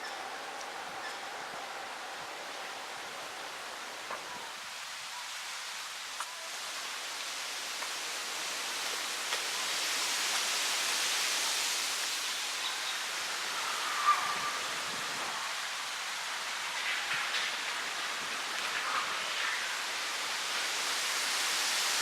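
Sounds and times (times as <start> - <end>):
wind rustling through foliage: 0.0 - 22.0.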